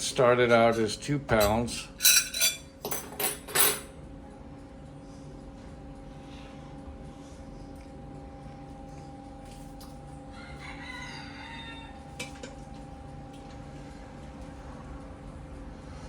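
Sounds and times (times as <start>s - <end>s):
steady hum with held tones: 0.0s - 16.0s.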